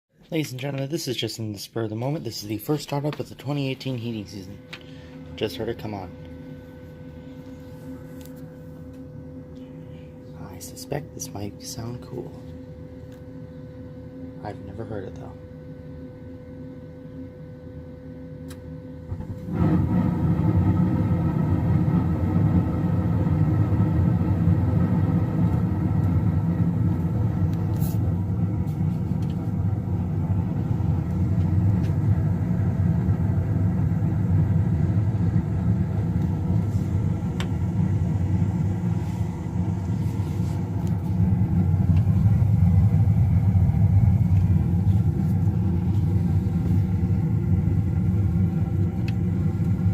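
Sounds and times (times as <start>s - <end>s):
faint steady hum: 0.1s - 49.9s
furnace burner flame rumbling: 0.3s - 49.9s.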